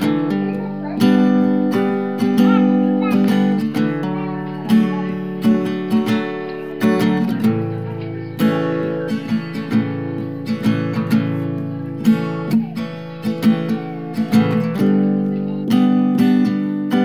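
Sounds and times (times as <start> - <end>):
strummed acoustic guitar music: 0.0 - 17.0.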